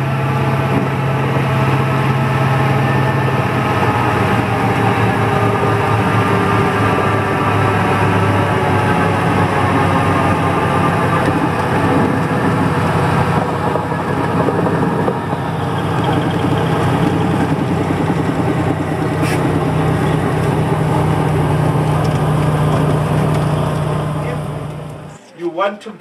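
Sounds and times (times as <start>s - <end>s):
aircraft engines humming: 0.0s - 25.3s.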